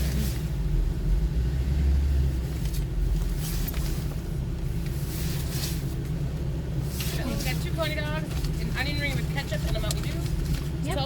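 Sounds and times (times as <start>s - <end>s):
car rumbling: 0.0s - 11.0s.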